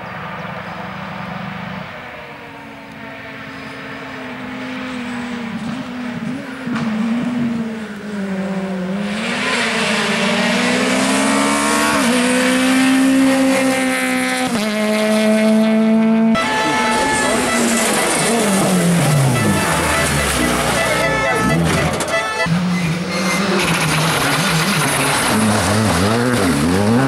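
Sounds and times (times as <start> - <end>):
rally car engine revving: 3.3 - 27.0.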